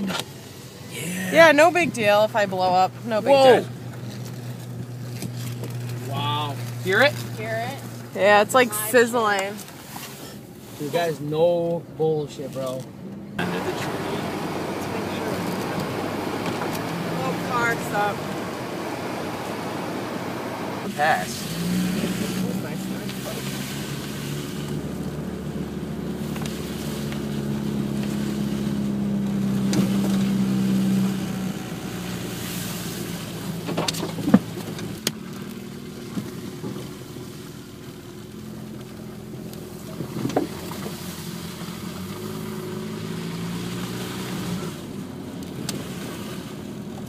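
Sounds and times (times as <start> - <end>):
car engine: 0.0 - 47.0
road noise: 0.0 - 47.0.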